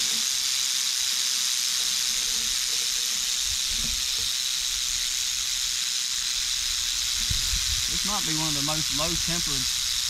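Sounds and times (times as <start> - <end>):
rattlesnake rattling: 0.0 - 10.0.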